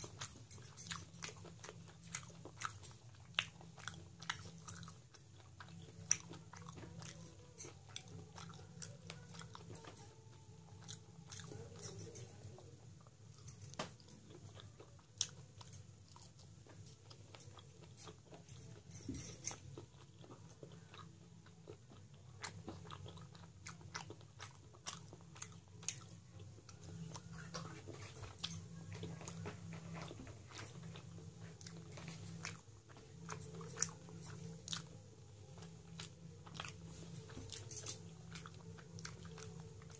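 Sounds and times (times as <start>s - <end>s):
close chewing with mouth clicks: 0.0s - 39.9s
steady low hum: 0.0s - 39.9s.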